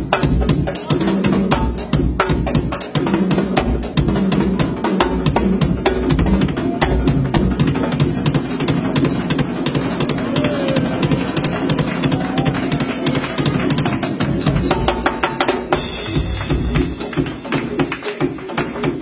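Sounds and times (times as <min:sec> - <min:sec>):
drum kit playing fast rhythm: 0:00.0 - 0:19.0.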